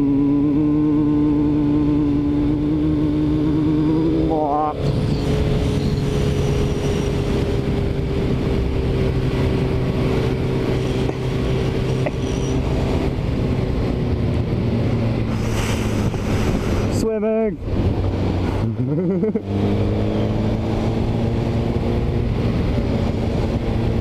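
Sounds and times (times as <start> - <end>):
motorcycle engine cruising: 0.0 - 24.0
wind and road noise: 0.0 - 24.0.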